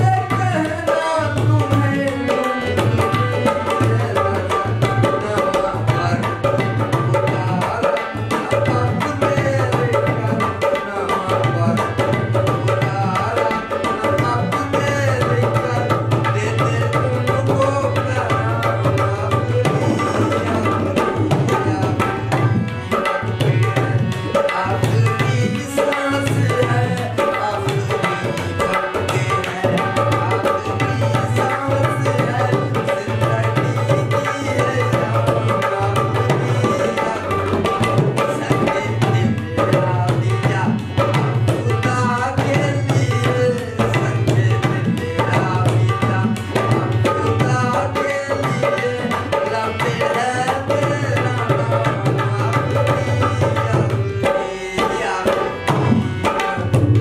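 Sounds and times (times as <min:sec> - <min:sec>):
harmonium melody: 0:00.0 - 0:57.0.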